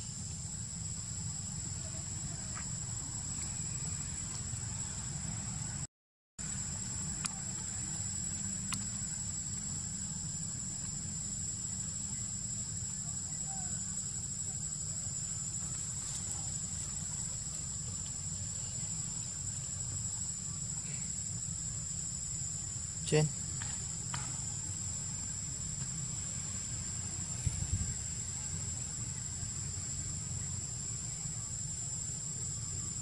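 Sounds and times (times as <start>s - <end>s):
insects stridulating: 0.0s - 33.0s.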